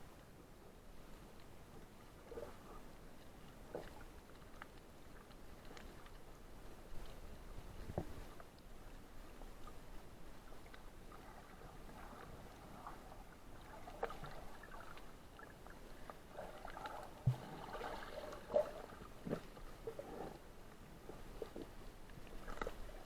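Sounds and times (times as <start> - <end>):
water sloshing and gurgling: 1.4 - 23.0.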